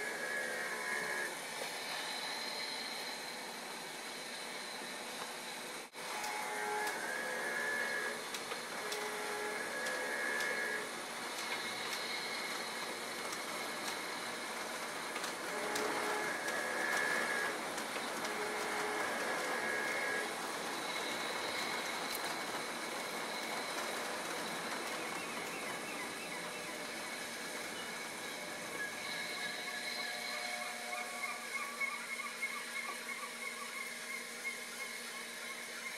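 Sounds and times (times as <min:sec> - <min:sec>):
model train rolling on track: 0:00.0 - 0:35.9.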